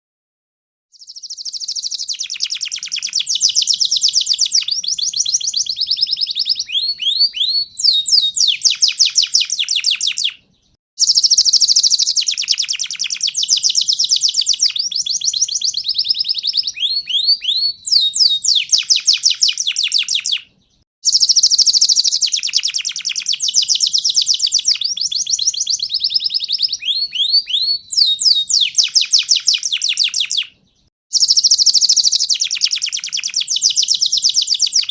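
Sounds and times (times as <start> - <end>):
canary singing trills and whistles: 0.9 - 34.9.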